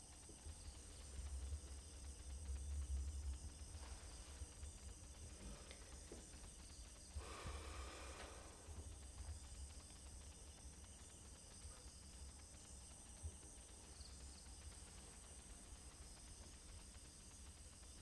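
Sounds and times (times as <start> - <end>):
faint hiss: 0.0 - 18.0
faint soft noise: 0.0 - 18.0.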